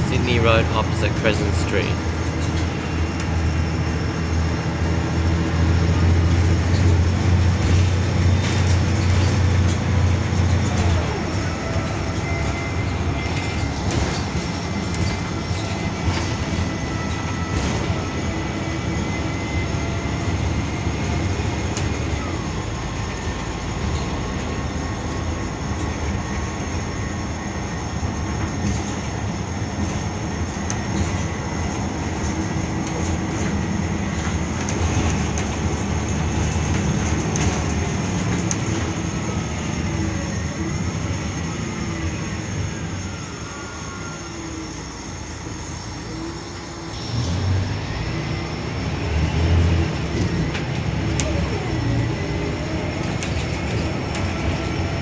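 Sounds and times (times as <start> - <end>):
bus diesel engine running: 0.0 - 55.0
road noise: 0.0 - 55.0.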